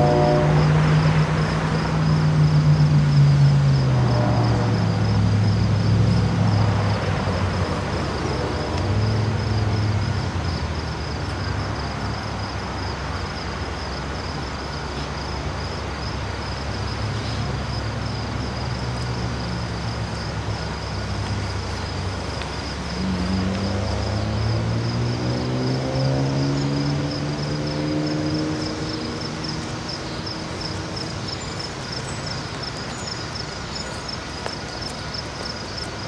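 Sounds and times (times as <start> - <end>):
insects trilling: 0.0 - 36.0.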